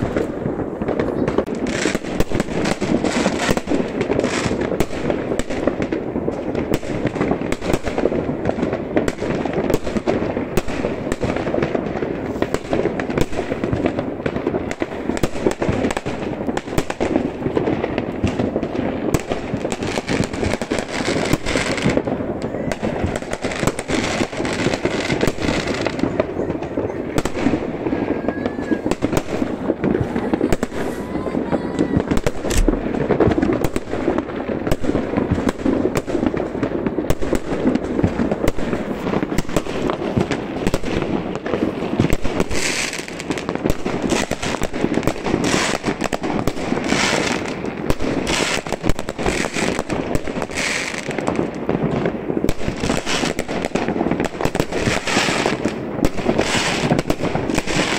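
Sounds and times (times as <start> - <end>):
fireworks bangs and pops: 0.0 - 57.9.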